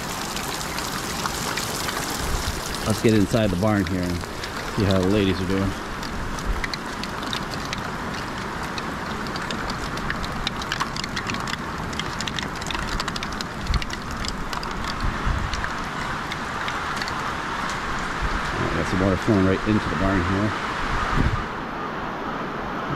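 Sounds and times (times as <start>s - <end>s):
raindrops ticking: 0.0s - 20.4s
steady rain hiss: 0.0s - 22.9s.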